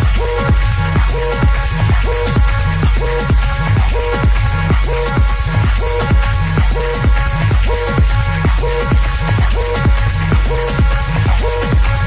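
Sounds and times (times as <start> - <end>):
minimal techno music: 0.0 - 12.0.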